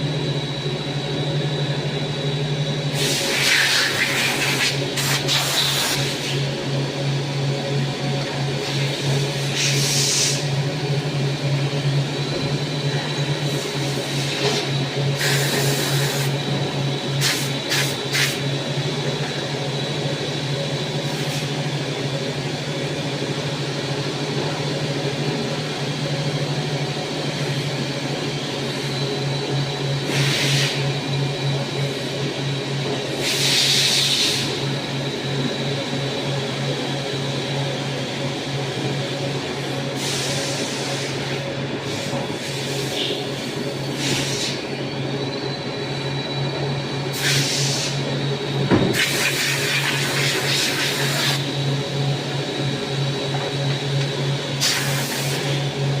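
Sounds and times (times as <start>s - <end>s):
machine hum with high whine: 0.0s - 56.0s.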